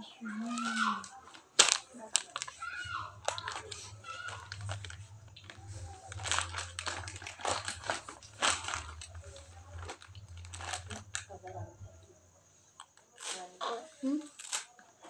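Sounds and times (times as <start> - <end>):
plastic crinkling and rustling: 0.0 - 11.9, 12.9 - 15.0
low steady hum: 0.0 - 13.0.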